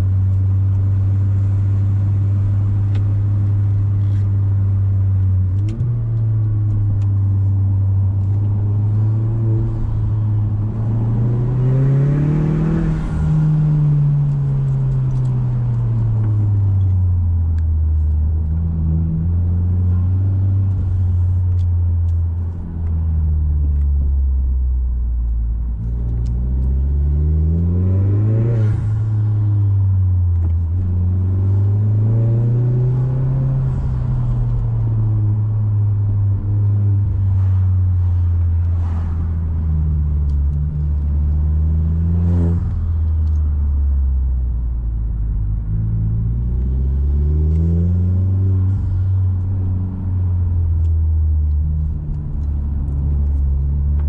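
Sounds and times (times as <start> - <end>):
car engine revving: 0.0 - 24.0, 25.7 - 54.0.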